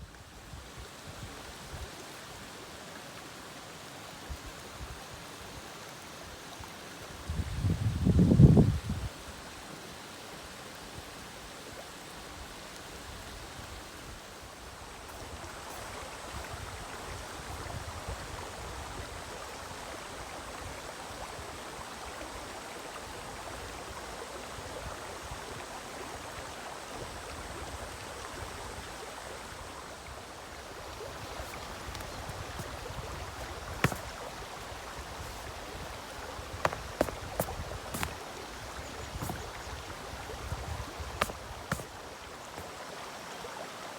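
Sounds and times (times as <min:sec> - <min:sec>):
mountain stream flowing: 0:00.0 - 0:07.3, 0:09.1 - 0:43.9.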